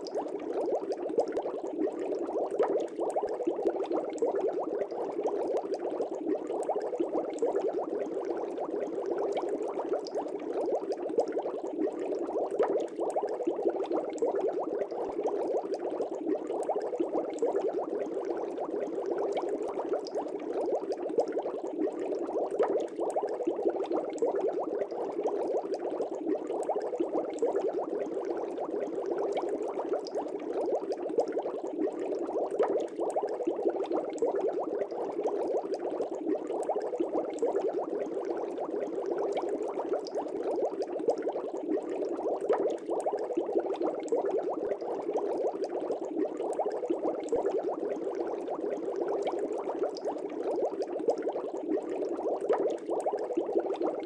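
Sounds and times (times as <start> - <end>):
aquarium air bubbling: 0.0 - 54.0.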